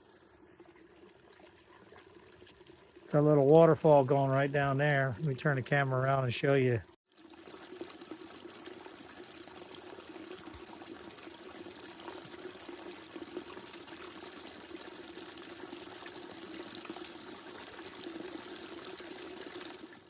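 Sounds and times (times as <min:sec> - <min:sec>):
small waterfall pouring: 0:00.0 - 0:20.0.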